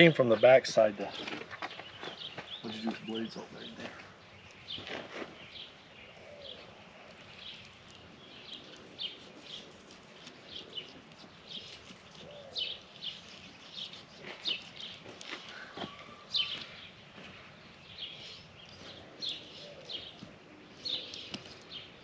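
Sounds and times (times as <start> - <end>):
bird chirping: 0.0 - 22.0
faint lower bird calls: 1.1 - 22.0.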